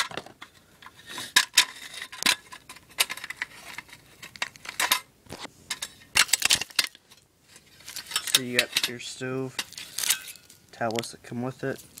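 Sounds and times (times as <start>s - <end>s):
metal stove parts clinking: 0.0s - 5.1s, 5.7s - 10.6s.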